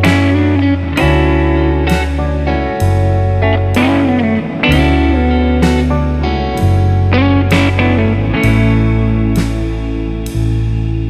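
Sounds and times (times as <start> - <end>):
guitar-led background music: 0.0 - 11.0.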